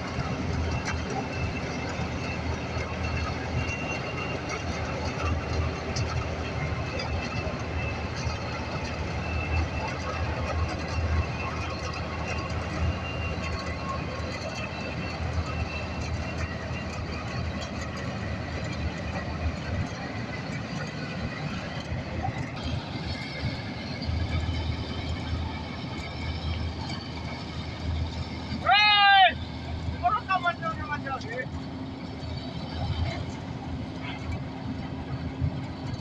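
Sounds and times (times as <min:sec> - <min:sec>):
combine harvester rumbling: 0:00.0 - 0:36.0.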